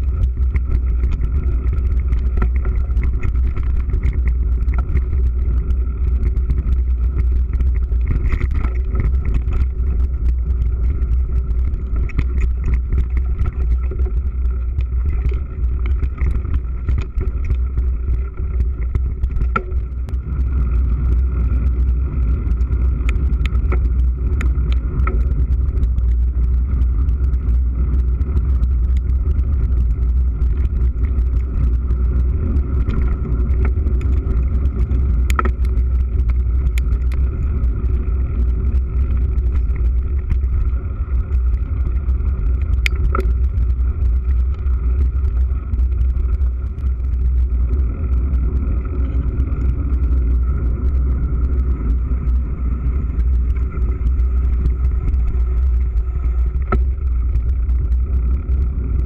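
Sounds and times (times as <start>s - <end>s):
bike rattles and clicks: 0.0s - 59.0s
wind and tyres rumbling: 0.0s - 59.0s.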